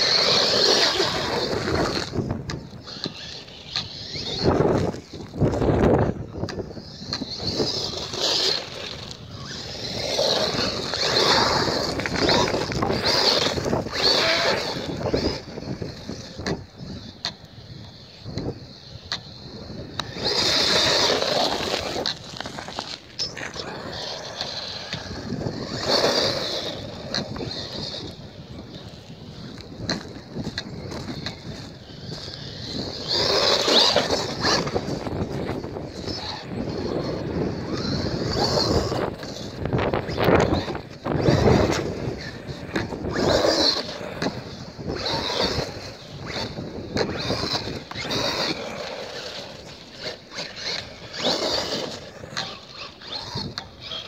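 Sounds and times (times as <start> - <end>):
electric motor whine: 0.0 - 54.0
tyres on gravel: 0.0 - 54.0.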